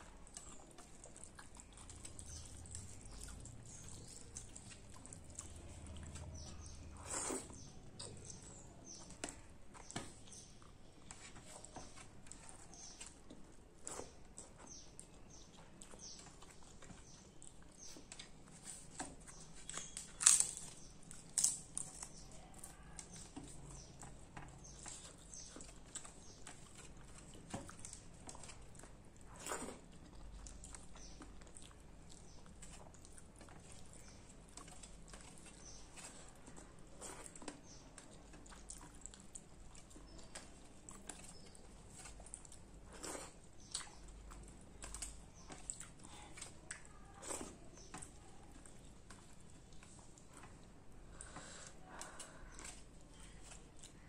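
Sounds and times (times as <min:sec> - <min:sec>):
mouth chewing and smacking: 0:00.0 - 0:54.0.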